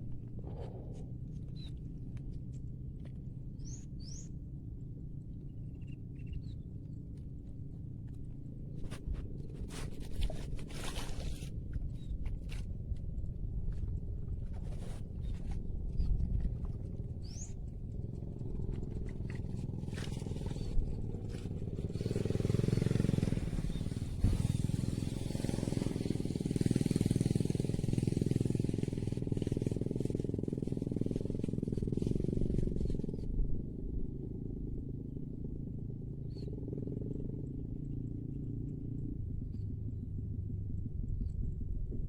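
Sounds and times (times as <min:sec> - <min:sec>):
small engine rumbling: 0:00.0 - 0:42.0.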